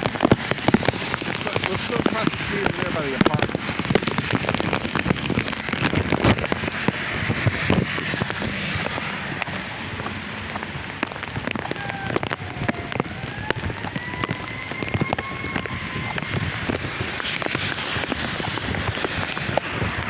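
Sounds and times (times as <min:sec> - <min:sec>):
rain drops ticking on a surface: 0:00.0 - 0:20.0.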